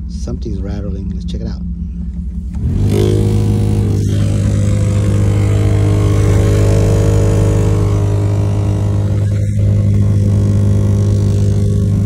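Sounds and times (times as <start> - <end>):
heater blower fan humming: 0.0 - 12.0.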